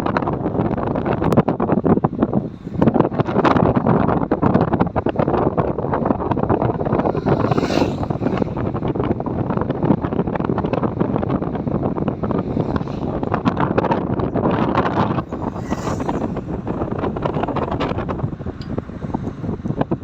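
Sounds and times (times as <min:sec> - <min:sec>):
vehicle rumble: 0:00.0 - 0:20.0
wind buffeting microphone: 0:00.0 - 0:20.0.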